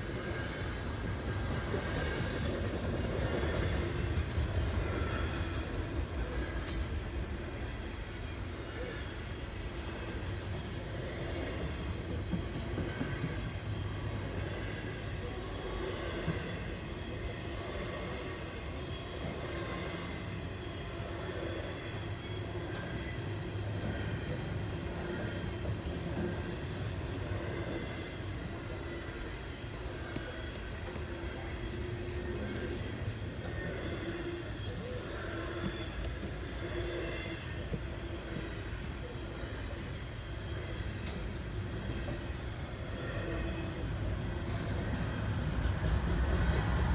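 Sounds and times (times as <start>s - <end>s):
faint clicks of train wheels: 0.0s - 46.9s
freight train wheels rumbling on rails: 0.0s - 46.9s.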